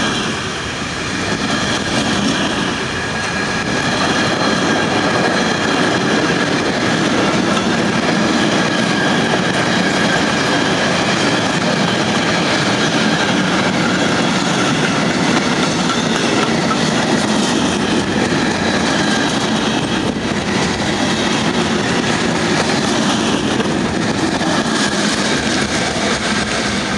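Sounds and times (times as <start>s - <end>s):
freight wagons rolling on rails: 1.3s - 26.9s.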